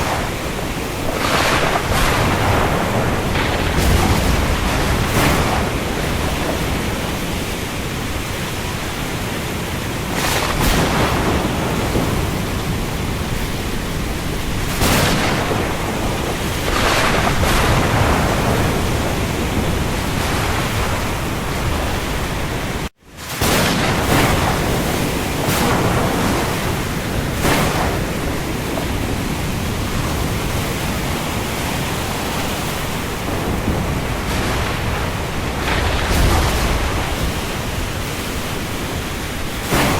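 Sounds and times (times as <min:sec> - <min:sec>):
rain falling on sea: 0:00.0 - 0:39.9
waves surging: 0:00.0 - 0:39.9.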